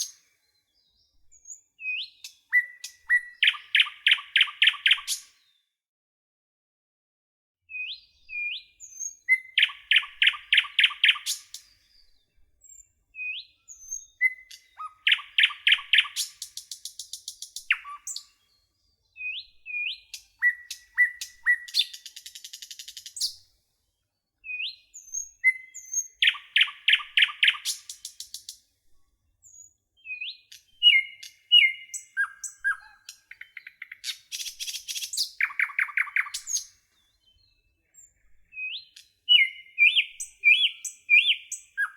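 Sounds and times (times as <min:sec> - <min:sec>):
songbird singing with trills: 0:00.0 - 0:05.6, 0:07.7 - 0:23.4, 0:24.4 - 0:28.6, 0:29.4 - 0:41.9.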